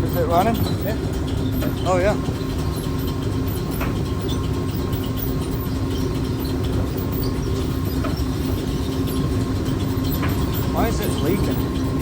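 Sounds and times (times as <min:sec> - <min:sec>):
bucket elevator rumbling and rattling: 0:00.0 - 0:12.0.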